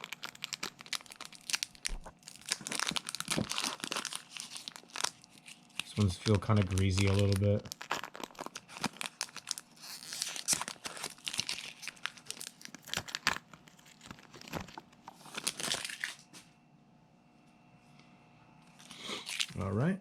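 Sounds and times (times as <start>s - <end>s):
foil pack crinkling and tearing: 0.0s - 16.4s, 18.8s - 19.6s
faint room hum: 0.0s - 20.0s.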